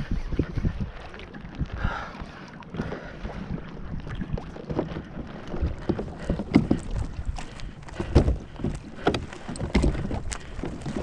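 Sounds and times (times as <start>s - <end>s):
waves slapping kayak hull: 0.0s - 11.0s
wind buffeting microphone: 0.0s - 11.0s.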